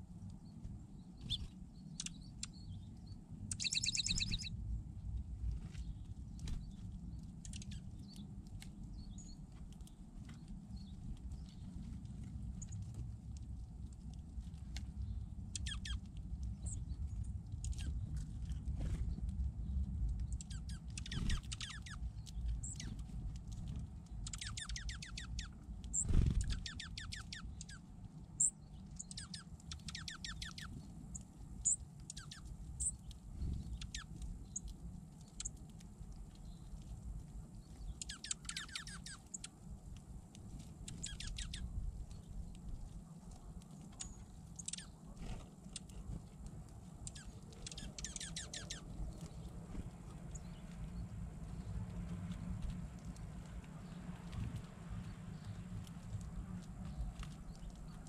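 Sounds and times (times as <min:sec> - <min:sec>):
low steady rumble: 0:00.0 - 0:58.0
songbirds chirping: 0:00.0 - 0:58.0.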